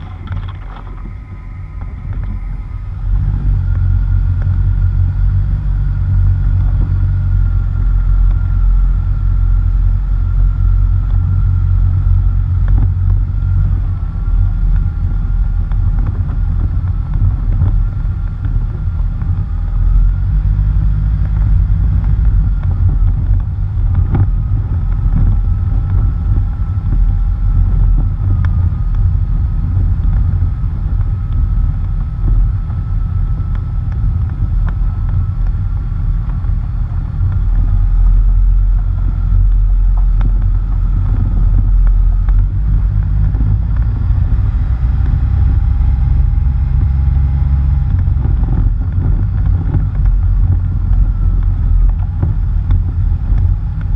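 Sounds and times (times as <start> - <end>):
faint steady whine: 0.0 - 53.9
tyres on rough dirt road: 0.0 - 53.9
wind noise on microphone: 0.0 - 53.9.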